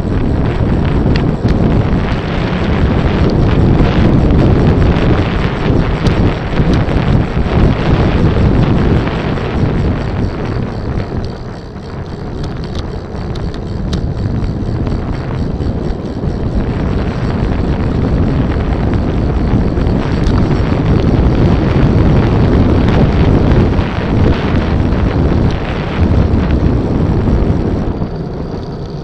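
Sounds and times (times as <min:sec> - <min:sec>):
low road rumble: 0:00.0 - 0:29.0
wind rushing over microphone: 0:00.0 - 0:29.0.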